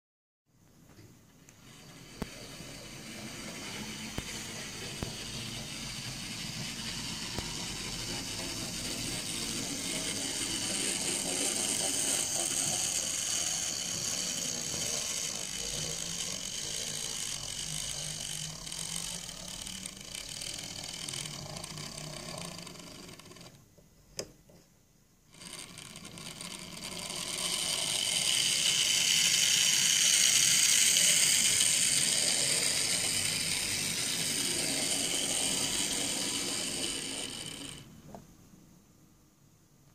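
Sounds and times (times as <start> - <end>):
model train motor whine: 1.5 - 23.6, 25.3 - 38.1.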